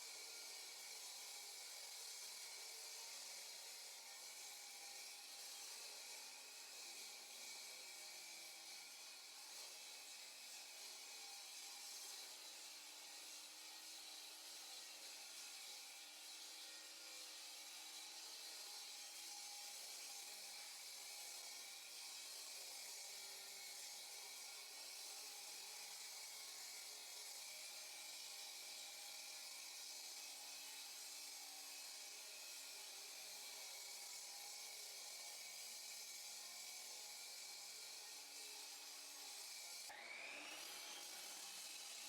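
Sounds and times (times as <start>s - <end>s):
power saw cutting concrete: 0.0s - 42.0s.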